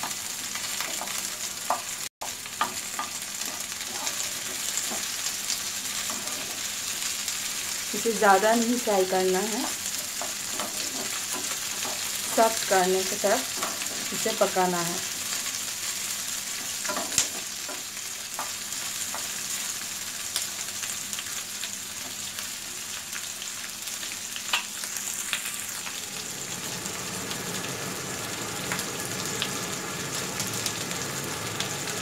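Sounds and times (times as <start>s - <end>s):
vegetables sizzling in hot oil: 0.0s - 32.0s.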